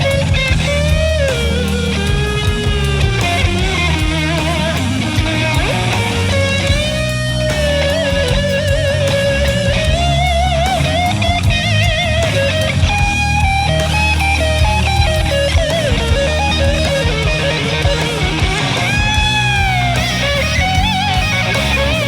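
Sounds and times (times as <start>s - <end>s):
bass and beat: 0.0s - 22.0s
lead guitar melody: 0.0s - 22.0s.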